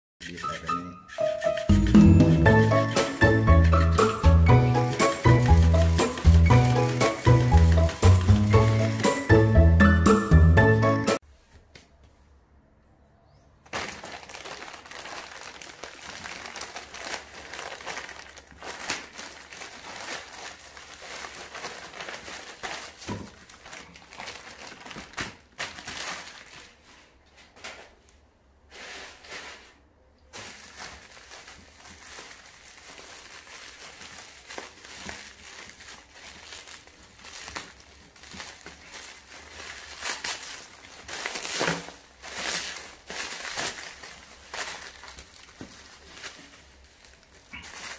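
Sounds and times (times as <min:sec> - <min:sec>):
bubble wrap rustling: 0:01.2 - 0:09.8, 0:13.6 - 0:47.9
plastic mailer bag crinkling: 0:02.5 - 0:09.7, 0:13.7 - 0:27.3, 0:30.3 - 0:47.9.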